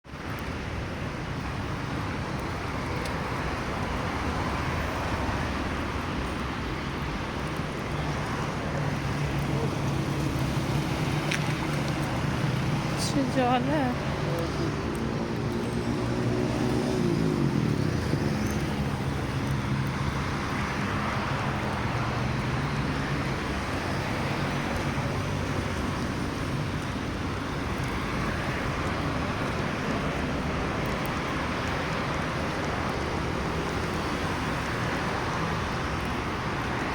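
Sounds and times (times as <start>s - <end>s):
traffic noise: 0.0s - 36.9s.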